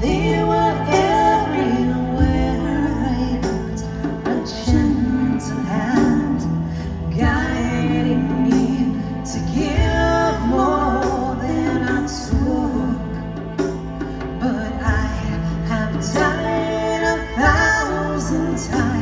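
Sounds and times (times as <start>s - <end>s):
live band playing: 0.0s - 19.0s
woman singing: 0.0s - 19.0s.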